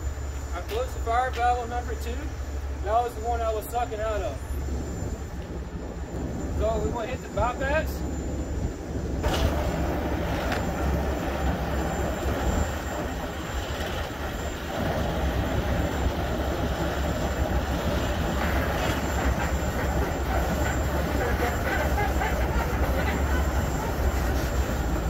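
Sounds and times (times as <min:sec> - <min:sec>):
diesel engine idling: 0:00.0 - 0:25.0
fuel pump hiss and whir: 0:00.0 - 0:25.0.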